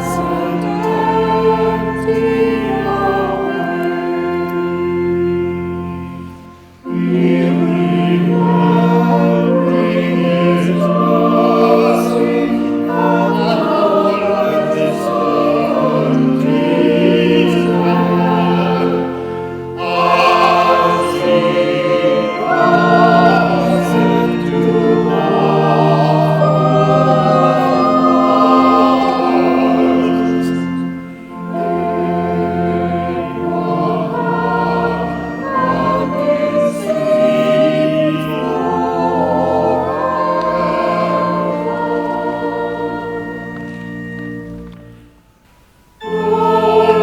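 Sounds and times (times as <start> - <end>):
church choir singing: 0.0 - 47.0.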